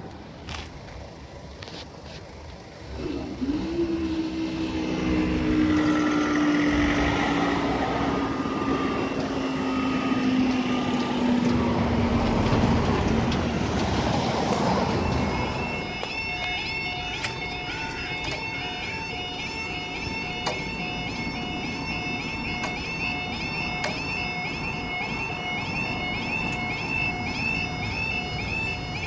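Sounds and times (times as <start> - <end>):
diesel train engine passing: 0.0 - 29.0
level crossing alarms warbling: 3.0 - 29.0.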